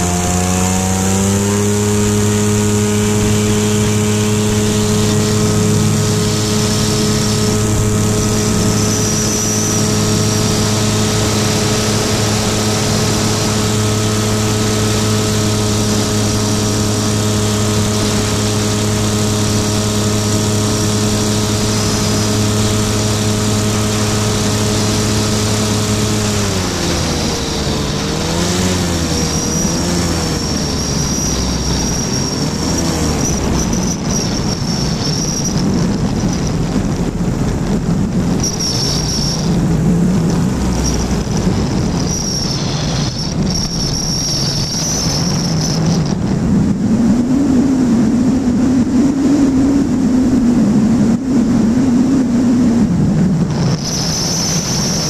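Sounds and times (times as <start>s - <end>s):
light aircraft engine and propeller: 0.0s - 55.0s
wind rushing: 1.4s - 55.0s.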